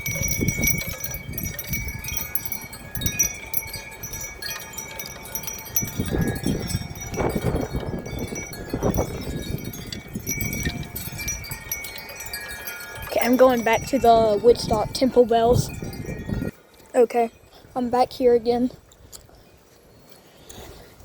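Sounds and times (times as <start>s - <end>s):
wind chimes ringing: 0.0s - 19.1s
wind buffeting microphone: 0.0s - 20.0s.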